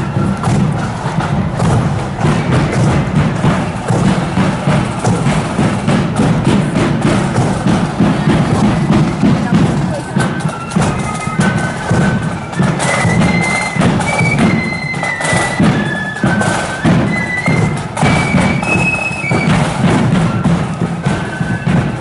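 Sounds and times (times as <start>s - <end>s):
steady marching drum beat: 0.0s - 22.0s.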